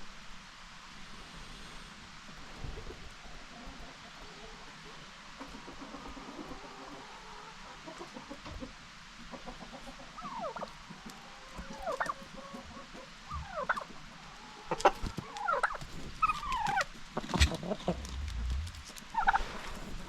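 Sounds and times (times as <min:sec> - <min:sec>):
turkeys and chickens calling: 0:03.2 - 0:19.9.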